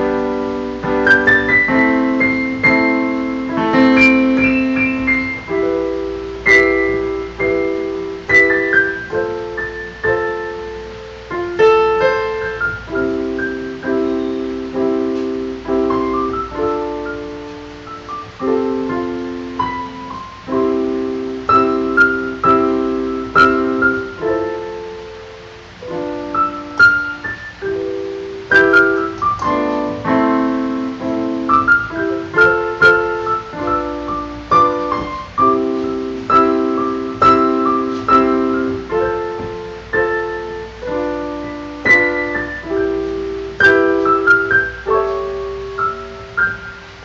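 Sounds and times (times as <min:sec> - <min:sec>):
slow gentle solo piano: 0:00.0 - 0:47.0.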